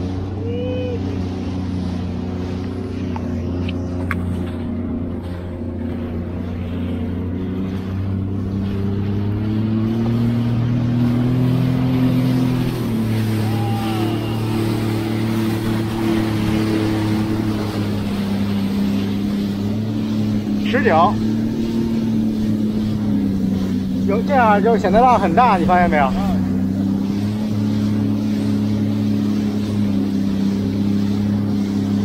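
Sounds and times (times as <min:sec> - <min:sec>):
jet ski engine: 0:00.0 - 0:32.0
water noise: 0:00.0 - 0:32.0.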